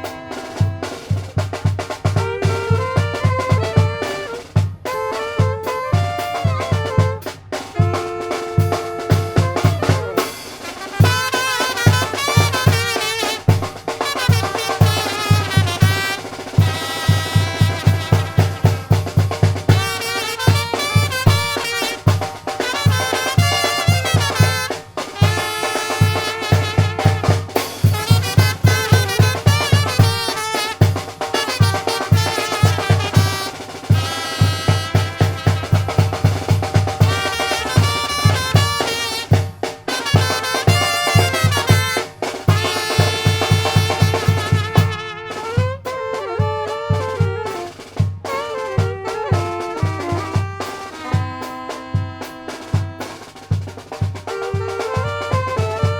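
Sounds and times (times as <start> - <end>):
brass playing melody with vibrato: 0.0 - 55.9
bass drum beat: 0.6 - 45.9.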